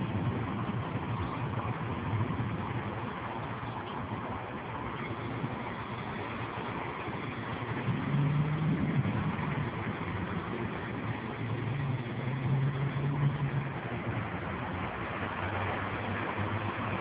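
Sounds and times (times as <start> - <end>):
low vehicle engine hum: 0.0 - 17.0
rain and wind rushing: 0.0 - 17.0.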